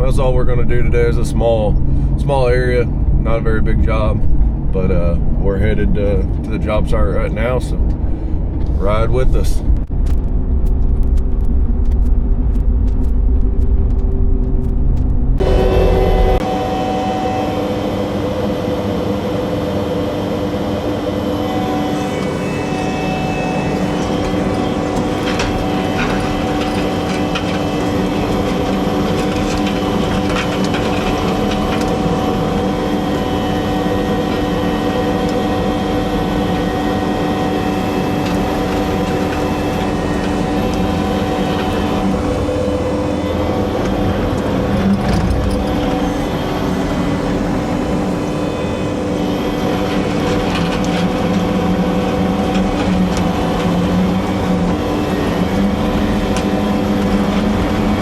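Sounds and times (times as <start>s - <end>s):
steady hum tones: 0.0s - 58.0s
vehicle engine and road noise: 0.1s - 16.6s, 21.6s - 58.0s.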